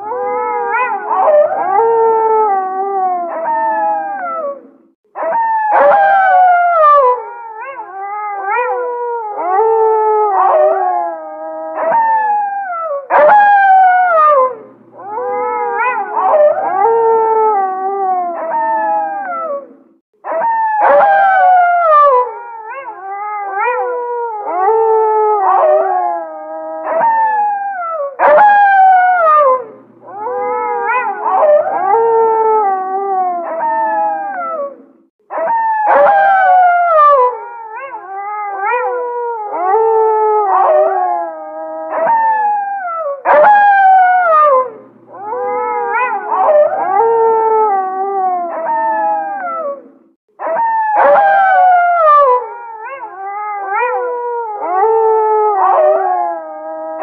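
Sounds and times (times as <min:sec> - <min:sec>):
wolves howling: 0:00.0 - 0:57.0.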